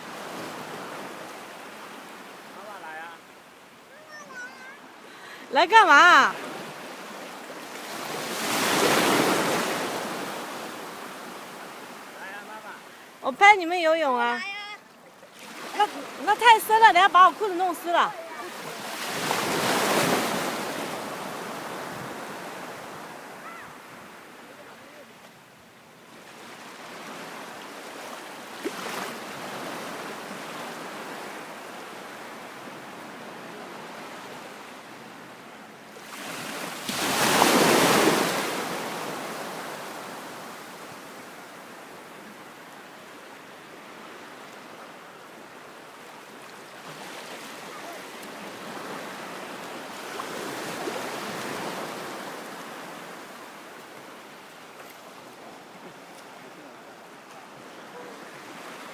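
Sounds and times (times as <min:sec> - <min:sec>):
sea waves washing onto shore: 0:00.0 - 0:25.4, 0:36.0 - 0:58.9.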